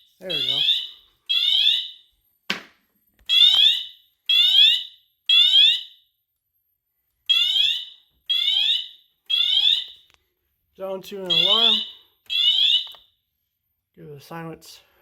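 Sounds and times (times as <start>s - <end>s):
fire alarm beeps: 0.0s - 10.2s, 11.2s - 13.8s.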